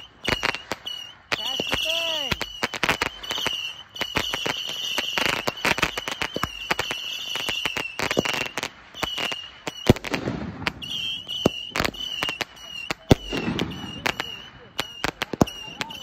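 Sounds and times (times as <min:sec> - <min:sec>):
fireworks bang: 0:00.0 - 0:16.0
fireworks crackling pops: 0:00.0 - 0:16.0
high steady whistle: 0:00.0 - 0:16.0.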